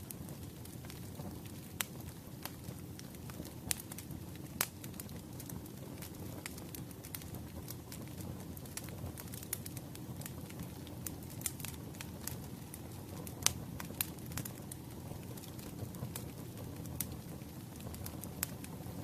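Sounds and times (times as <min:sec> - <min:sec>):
firewood burning with crackles: 0:00.0 - 0:19.0.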